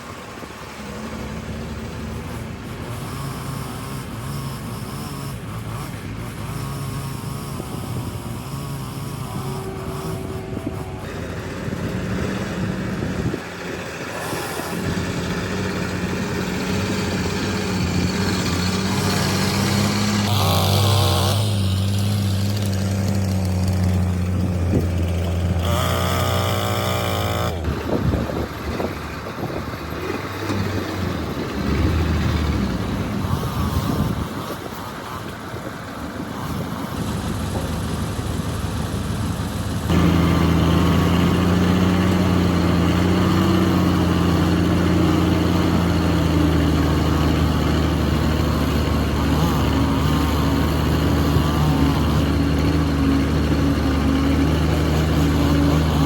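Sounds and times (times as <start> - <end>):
heavy machine diesel engines: 0.0 - 56.0.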